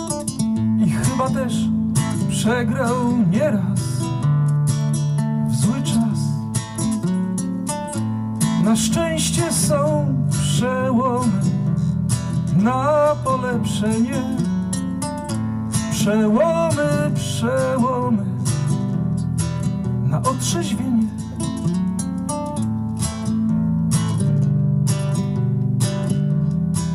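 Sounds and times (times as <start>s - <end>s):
nylon-string guitar playing: 0.0s - 26.9s.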